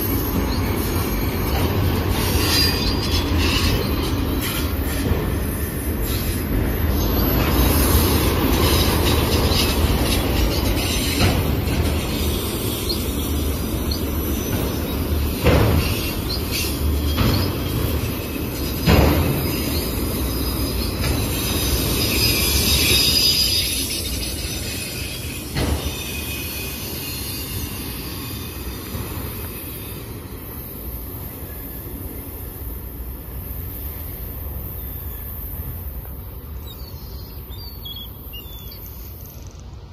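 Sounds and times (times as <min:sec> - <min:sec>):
high wheel squeal: 0:00.0 - 0:32.4, 0:33.4 - 0:39.7
train wheels rumbling on rails: 0:00.0 - 0:39.9.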